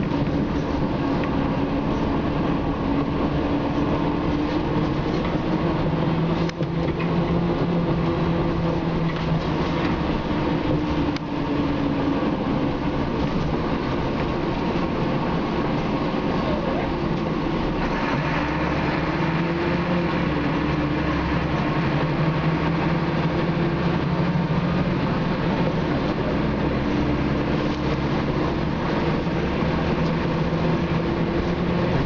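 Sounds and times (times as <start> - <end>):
bus diesel engine drone: 0.0 - 32.0
road noise: 0.0 - 32.0.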